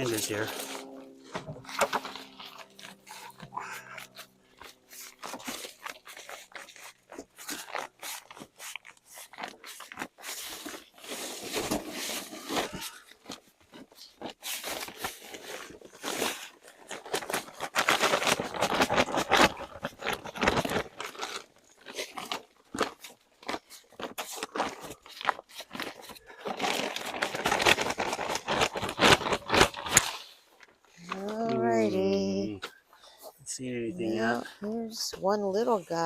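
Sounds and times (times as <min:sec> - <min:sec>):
hands rummaging through soil: 0:00.0 - 0:36.0.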